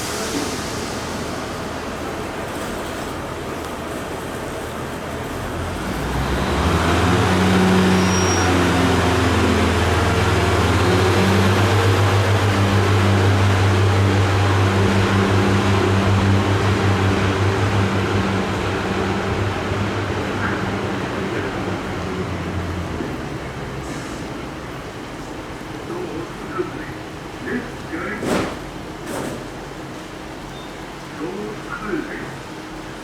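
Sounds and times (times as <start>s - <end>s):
diesel railbus engine throbbing: 0.0s - 33.0s.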